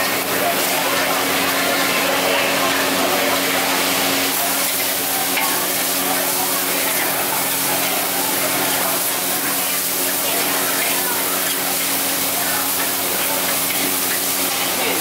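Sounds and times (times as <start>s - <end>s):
noodles sizzling in a wok: 0.0s - 15.0s.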